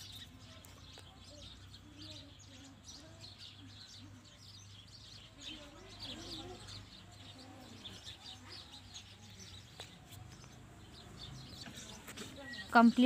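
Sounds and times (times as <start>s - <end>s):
faint small birds chirping: 0.0s - 13.0s.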